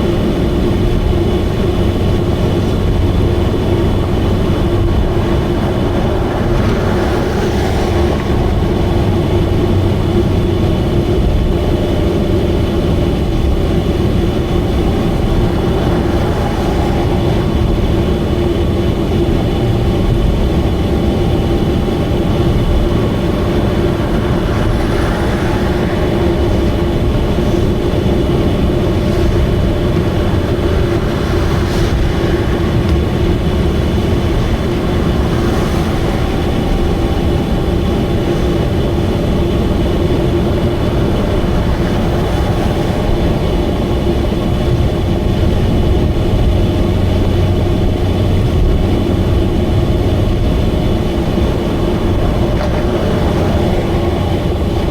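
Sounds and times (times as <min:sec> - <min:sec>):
car engine and exhaust droning: 0:00.0 - 0:54.9
road rumble: 0:00.0 - 0:54.9.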